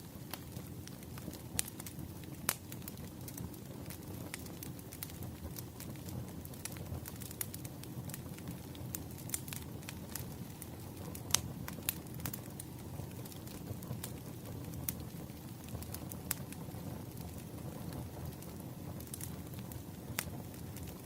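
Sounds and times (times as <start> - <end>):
firewood crackling and popping: 0.0 - 21.0.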